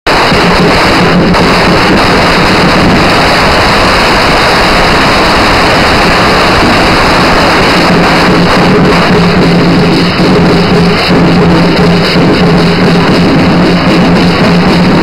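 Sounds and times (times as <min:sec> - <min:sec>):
firecrackers crackling: 0:00.1 - 0:15.0.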